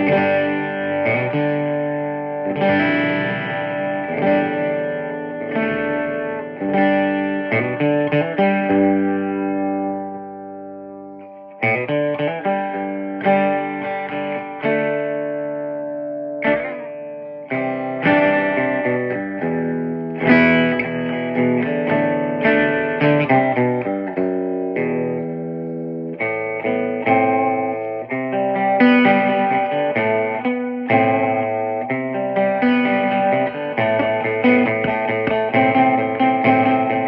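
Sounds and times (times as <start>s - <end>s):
electric guitar chords ringing: 0.0s - 37.0s.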